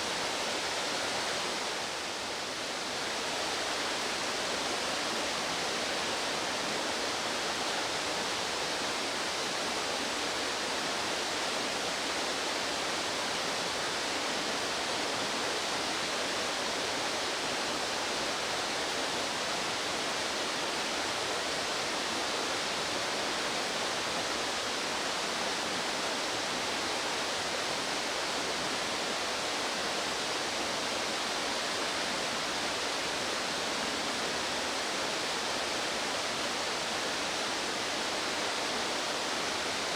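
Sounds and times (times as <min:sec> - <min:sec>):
fast stream rushing: 0:00.0 - 0:39.9.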